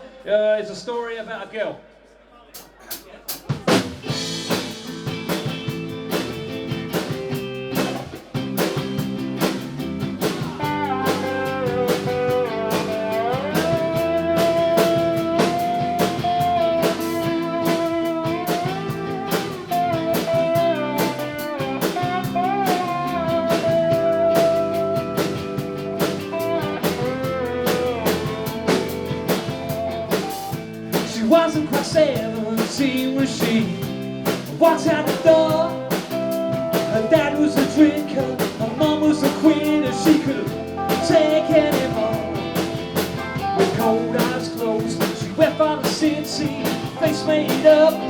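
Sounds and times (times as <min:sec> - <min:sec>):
band playing blues-rock: 0:03.3 - 0:48.0
lead guitar bending notes: 0:04.1 - 0:31.0, 0:34.0 - 0:48.0.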